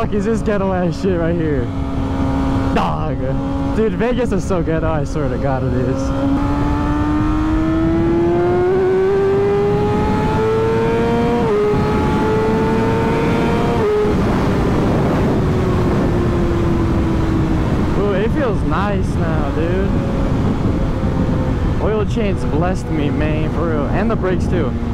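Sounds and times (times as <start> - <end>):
motorcycle engine accelerating: 0.0 - 24.9.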